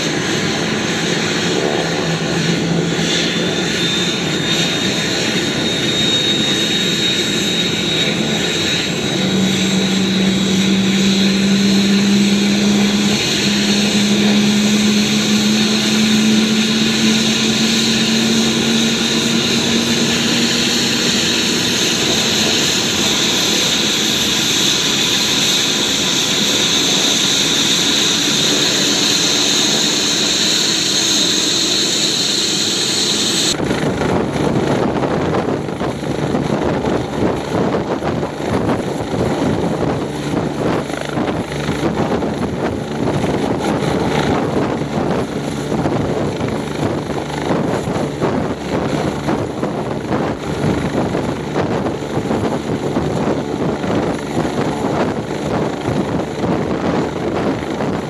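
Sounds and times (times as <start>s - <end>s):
helicopter turbine whine and rotor: 0.0s - 58.0s.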